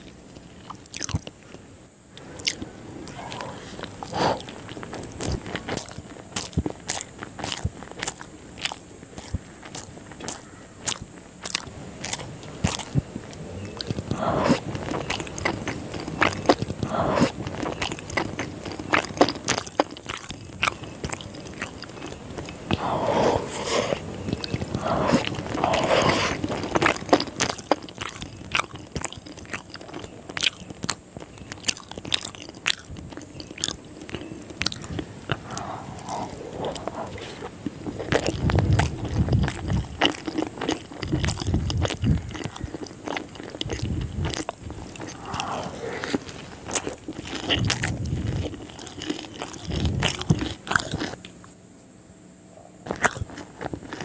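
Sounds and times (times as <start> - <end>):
crisp chewing crunches: 0.0 - 1.6, 2.2 - 51.5, 52.8 - 54.0.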